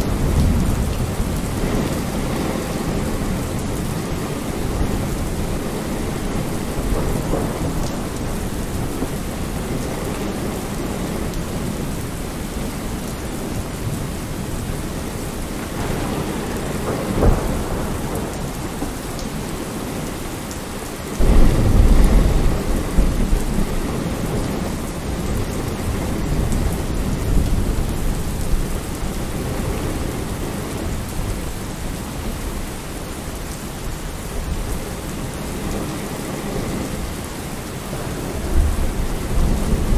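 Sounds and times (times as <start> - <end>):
low rumble of thunder: 0.0 - 39.9
steady rain falling: 0.0 - 39.9.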